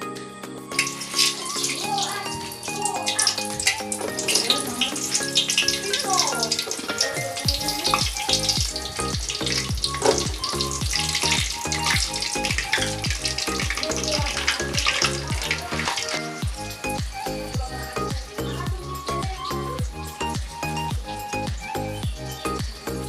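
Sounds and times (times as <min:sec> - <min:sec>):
background music with beat: 0:00.0 - 0:23.0
food sizzling in hot oil: 0:00.7 - 0:23.0.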